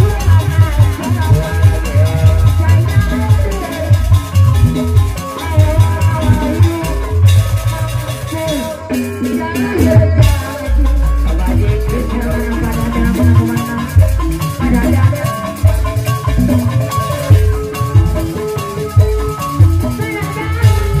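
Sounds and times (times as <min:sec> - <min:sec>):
hand drums beating: 0:00.0 - 0:21.0
ringing metallophones: 0:00.0 - 0:21.0.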